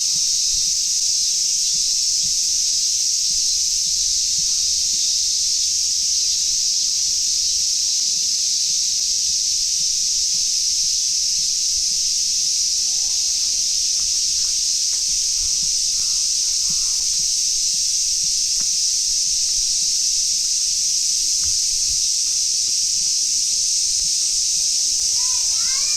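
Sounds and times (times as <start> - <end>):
cicadas buzzing: 0.0 - 25.9.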